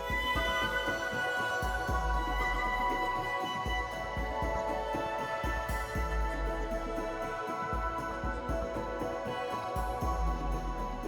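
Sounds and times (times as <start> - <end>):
instrumental music with held tones: 0.0 - 11.0.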